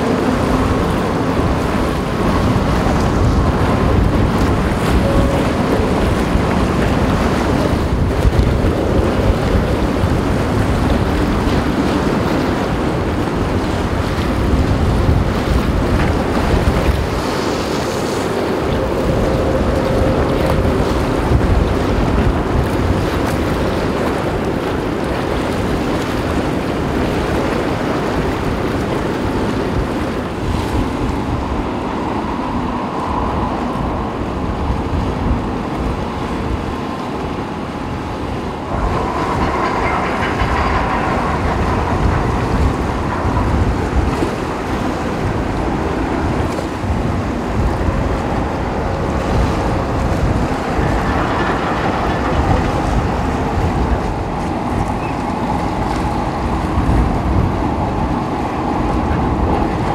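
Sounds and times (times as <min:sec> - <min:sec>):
ferry engines and propeller wash: 0:00.0 - 0:59.9
wind buffeting microphone: 0:00.0 - 0:59.9.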